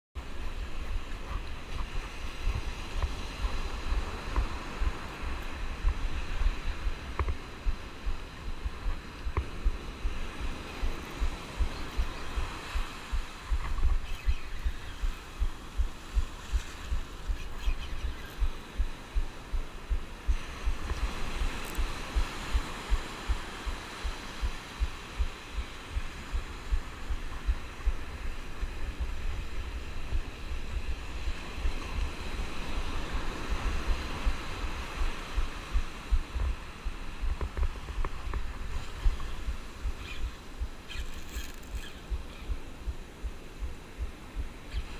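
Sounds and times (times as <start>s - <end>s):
surf washing: 0.2s - 44.9s.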